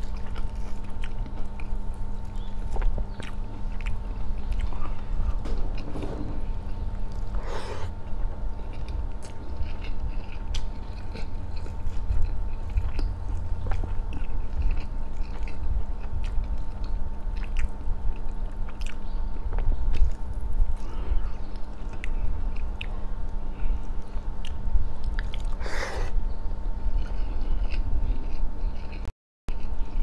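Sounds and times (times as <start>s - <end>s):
chewing and biting chicken: 0.0s - 5.9s, 6.7s - 30.0s
faint steady hum: 0.0s - 30.0s.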